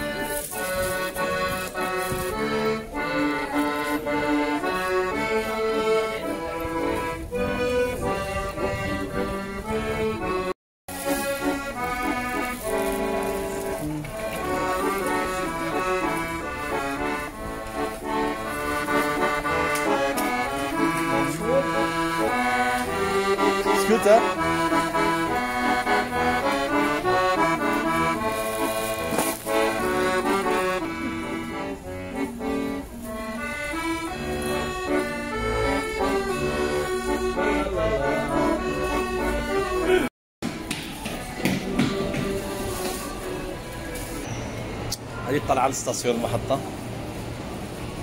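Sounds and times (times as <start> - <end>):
accordion playing a tune: 0.0 - 40.1, 41.2 - 48.0.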